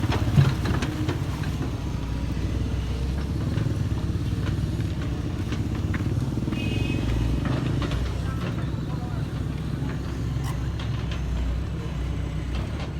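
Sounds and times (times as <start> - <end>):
heavy diesel engine rumbling: 0.0 - 12.9.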